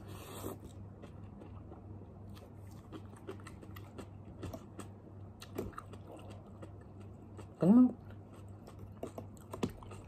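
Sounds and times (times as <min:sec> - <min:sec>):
chewing with wet mouth clicks: 0:00.6 - 0:10.0.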